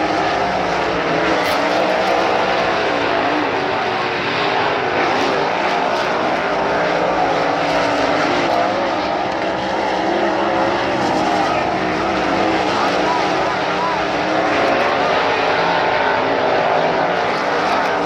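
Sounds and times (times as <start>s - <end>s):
racing car engines: 0.0s - 18.0s.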